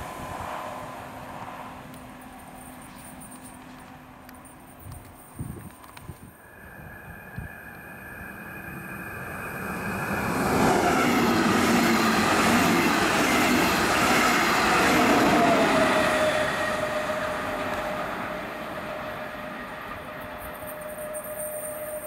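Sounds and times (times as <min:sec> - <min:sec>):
locomotive whine: 0:00.0 - 0:22.0
train wheels rolling on rails: 0:00.0 - 0:22.0.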